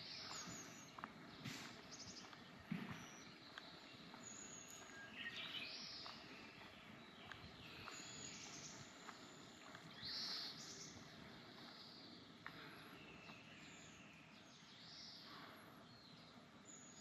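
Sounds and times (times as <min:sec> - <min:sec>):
birds calling: 0:00.0 - 0:17.0
faint outdoor ambience: 0:00.0 - 0:17.0.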